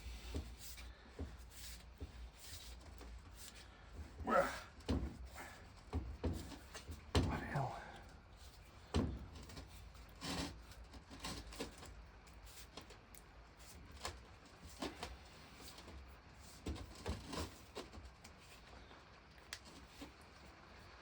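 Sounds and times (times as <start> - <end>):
knocks and scrapes on water pump: 0.0 - 12.0, 13.6 - 18.6.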